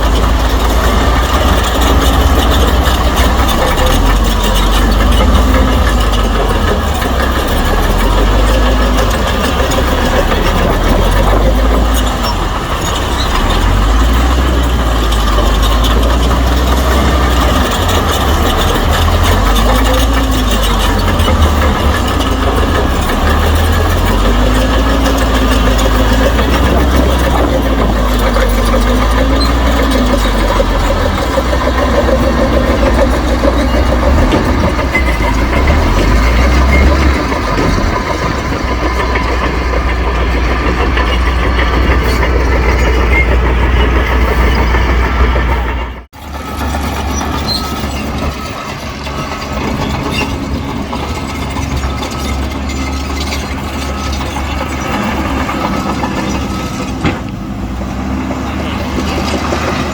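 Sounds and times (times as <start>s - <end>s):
bulldozer diesel engine revving: 0.0s - 59.9s.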